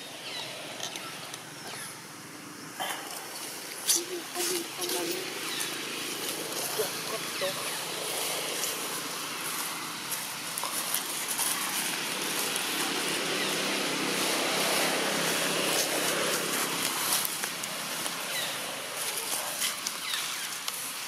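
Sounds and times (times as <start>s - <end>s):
steady hiss: 0.0s - 21.0s
motor vehicle passing: 2.8s - 19.8s.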